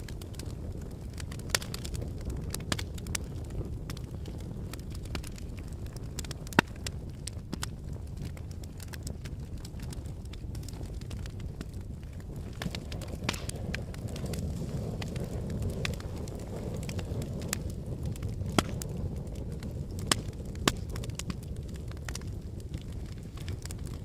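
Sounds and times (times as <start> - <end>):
sharp cracks and crackles: 0.0 - 24.0
volcanic low rumble: 0.0 - 24.0.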